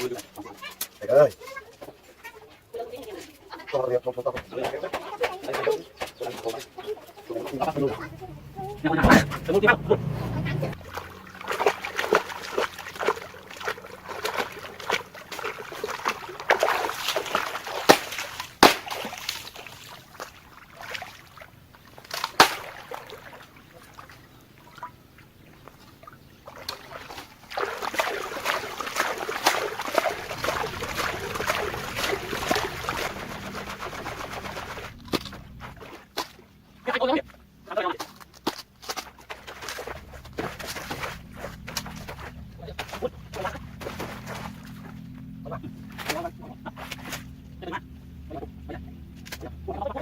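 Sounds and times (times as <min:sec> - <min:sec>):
water splashing and sloshing: 0:04.3 - 0:50.0.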